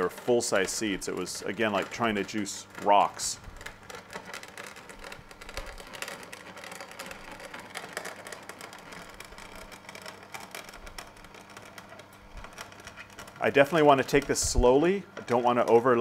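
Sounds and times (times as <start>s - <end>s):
crackling and grinding puree: 0.0s - 16.0s
juicer motor hum: 0.0s - 16.0s.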